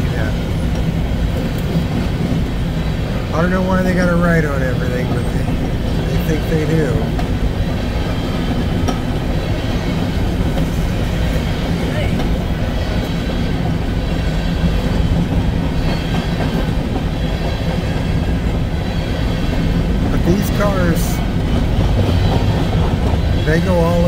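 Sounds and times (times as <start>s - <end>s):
steel wheels rumbling on rail: 0.0s - 24.0s
wheels clicking over rail joints: 0.0s - 24.0s.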